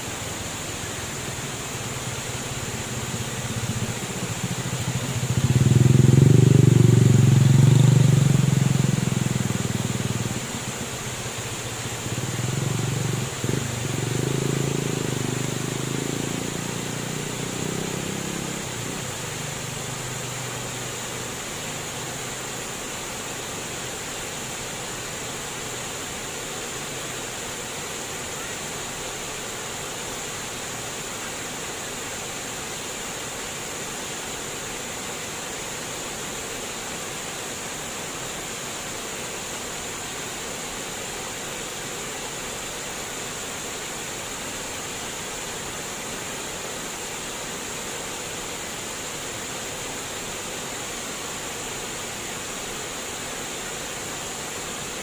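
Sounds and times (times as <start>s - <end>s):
water babbling: 0.0s - 55.0s.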